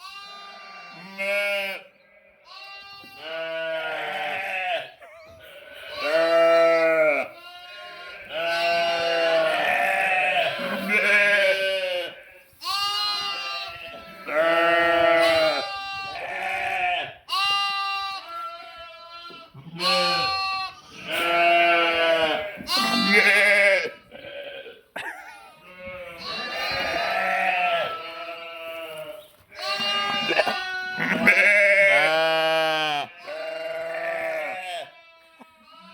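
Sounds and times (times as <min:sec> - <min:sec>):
sheep and lambs bleating: 0:00.0 - 0:35.9.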